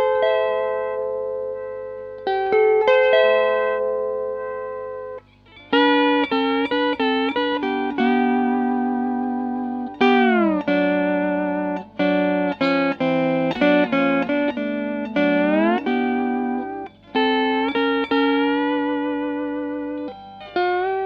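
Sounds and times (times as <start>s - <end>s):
steel guitar sliding chords: 0.0s - 21.0s.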